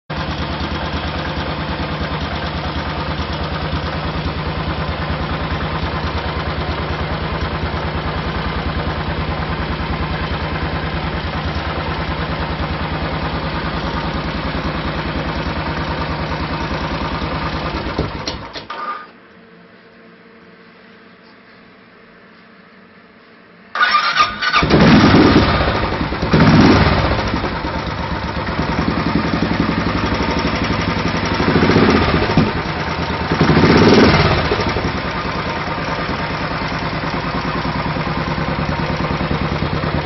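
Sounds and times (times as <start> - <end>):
motorcycle engine idling: 0.1 - 18.6, 23.8 - 40.0.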